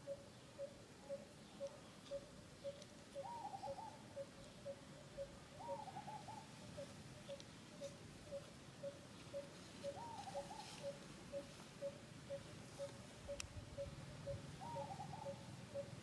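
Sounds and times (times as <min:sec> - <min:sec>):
bird hooting: 0:00.0 - 0:16.0
bird warbling calls: 0:00.0 - 0:16.0.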